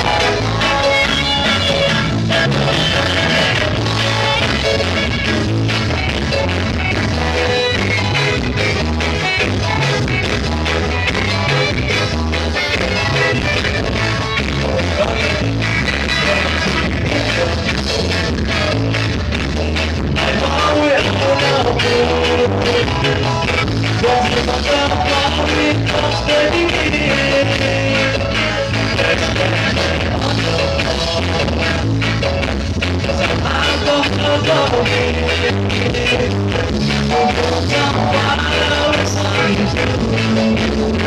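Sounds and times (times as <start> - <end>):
rock band music: 0.0 - 41.0.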